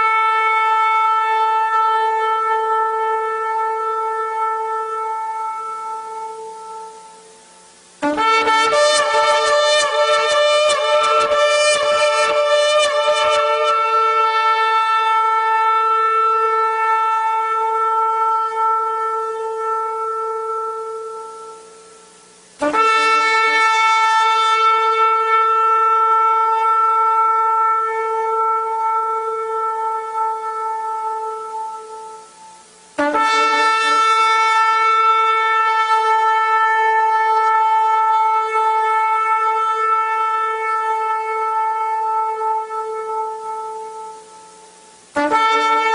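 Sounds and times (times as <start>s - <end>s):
shofar blasts: 0.0s - 45.9s.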